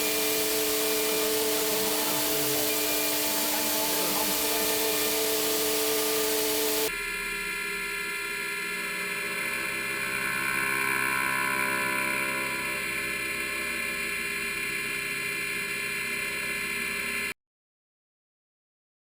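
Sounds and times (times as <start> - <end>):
milling machine cutting: 0.0 - 6.9, 8.5 - 17.2
machine whine of held tones: 0.0 - 17.4.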